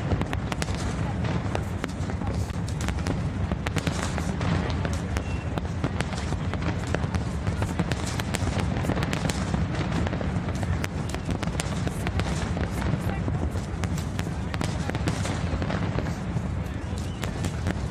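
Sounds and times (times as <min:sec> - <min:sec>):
fireworks crackling and popping: 0:00.0 - 0:17.9.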